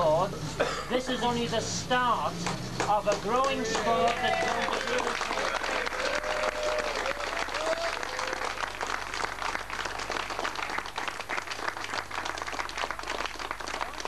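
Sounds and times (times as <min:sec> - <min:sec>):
crowd applauding: 0:02.4 - 0:14.0.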